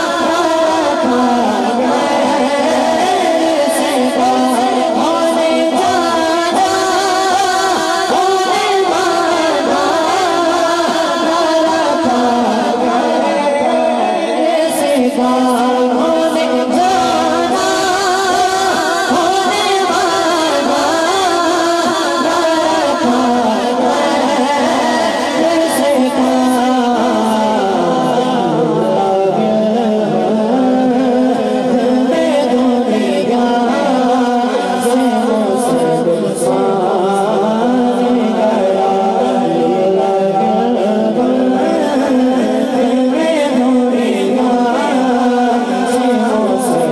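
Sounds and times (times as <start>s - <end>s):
boy singing into a microphone: 0.0s - 46.9s.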